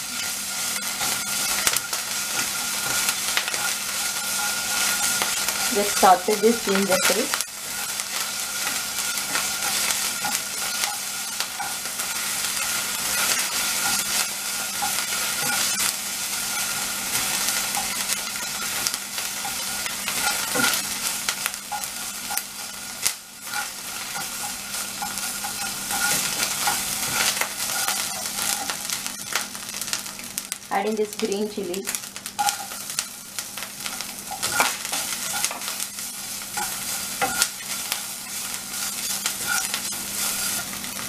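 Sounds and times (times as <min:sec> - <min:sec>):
paste sizzling in hot oil: 0:00.0 - 0:41.0.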